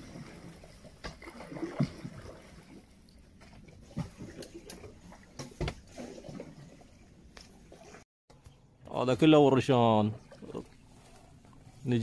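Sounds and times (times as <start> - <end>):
water sloshing against a hull: 0.0 - 12.0.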